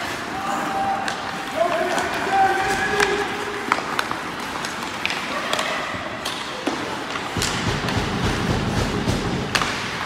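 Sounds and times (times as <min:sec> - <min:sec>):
hockey sticks clacking on puck: 0:00.0 - 0:10.0.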